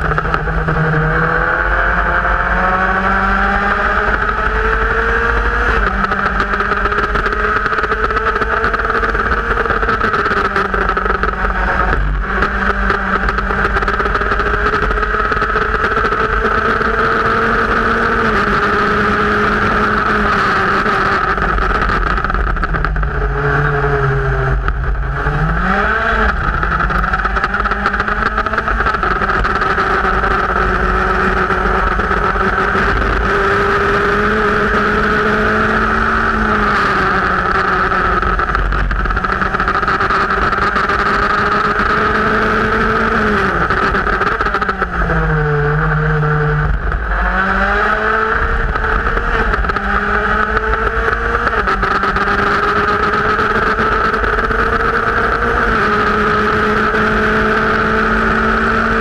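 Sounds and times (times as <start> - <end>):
race car engine at high revs: 0.0 - 59.0
wind noise: 0.0 - 59.0.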